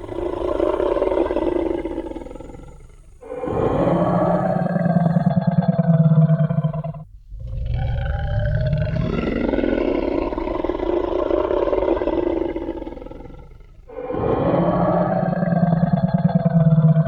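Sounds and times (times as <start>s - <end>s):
dinosaur roaring: 0.0s - 17.0s
pitched growling roar: 0.0s - 17.0s.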